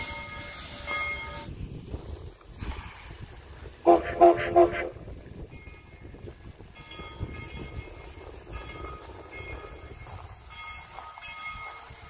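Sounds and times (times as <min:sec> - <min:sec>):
locomotive bell ringing: 0:00.0 - 0:02.4, 0:03.9 - 0:12.0.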